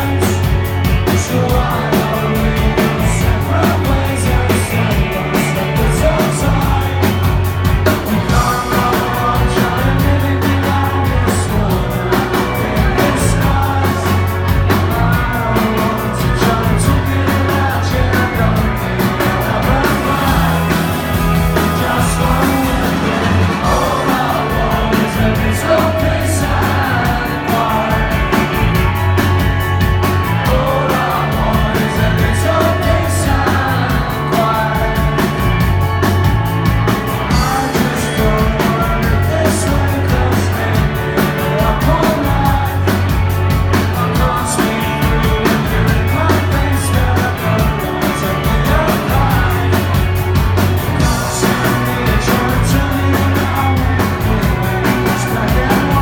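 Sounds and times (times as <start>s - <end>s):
person singing: 0.0s - 35.7s, 37.3s - 50.2s, 50.9s - 56.0s
rock band playing live: 0.0s - 56.0s
steady drum beat: 0.0s - 56.0s.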